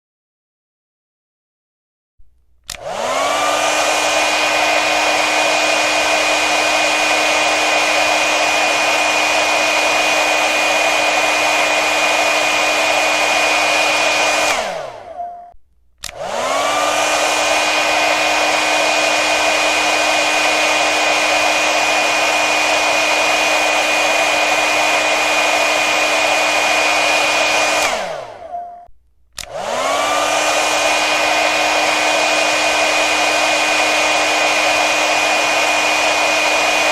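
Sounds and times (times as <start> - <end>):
hair dryer running: 2.3 - 36.9.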